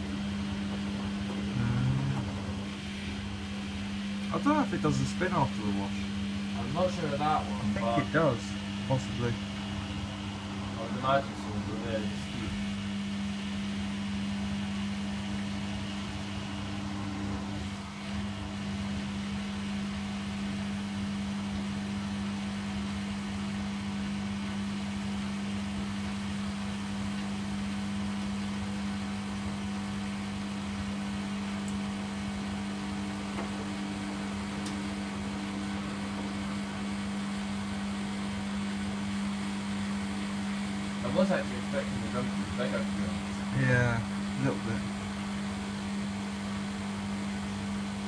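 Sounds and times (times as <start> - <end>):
washing machine humming: 0.0 - 48.0.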